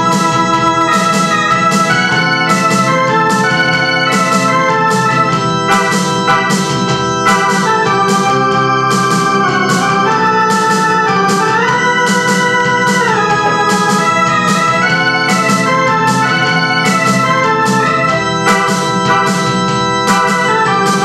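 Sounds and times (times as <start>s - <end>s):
electronic keyboard organ chords: 0.0s - 21.0s
steady drum beat: 0.0s - 21.0s.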